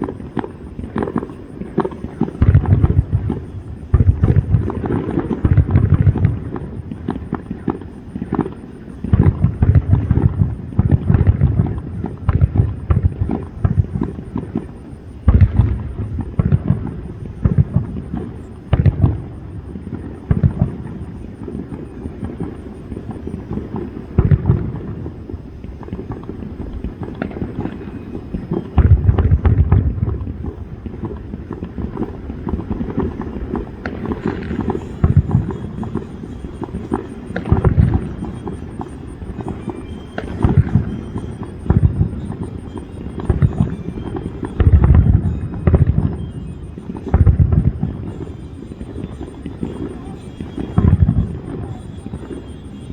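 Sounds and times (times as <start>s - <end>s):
fireworks bursts and crackles: 0.0s - 52.9s
low fireworks booms: 0.0s - 52.9s.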